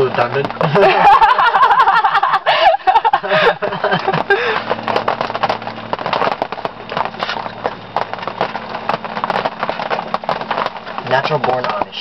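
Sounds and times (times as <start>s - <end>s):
wood cracking and snapping: 0.0s - 1.3s, 3.3s - 12.0s.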